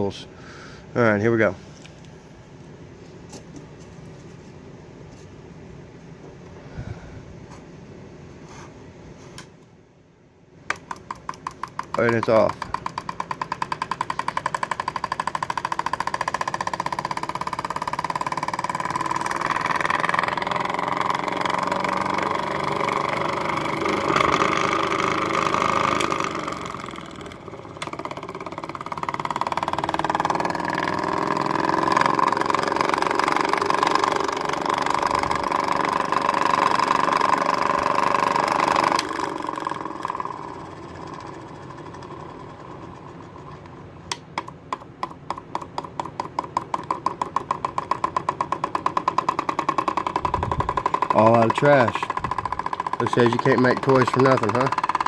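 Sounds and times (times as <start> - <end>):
solenoid engine rattling: 10.7 - 55.0.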